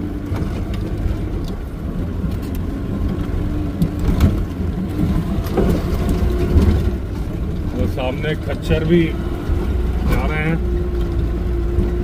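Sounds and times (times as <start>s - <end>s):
knocks and rattles over bumps: 0.0s - 12.0s
low engine rumble: 0.0s - 12.0s.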